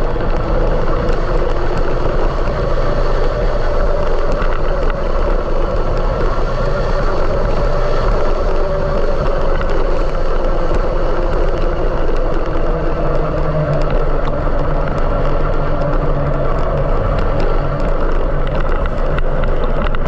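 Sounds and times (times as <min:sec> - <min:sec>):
vehicle rumble and hum: 0:00.0 - 0:20.0.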